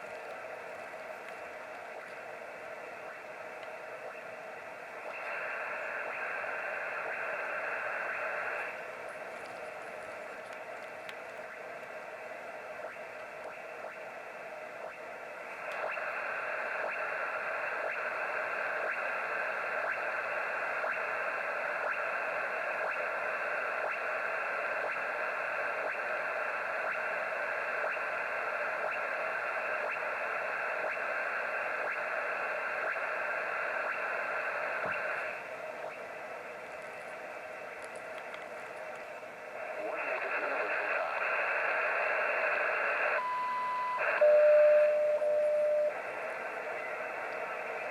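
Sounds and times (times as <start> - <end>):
radio hiss and static: 0.0 - 47.9
steady rushing noise signal: 0.0 - 47.9.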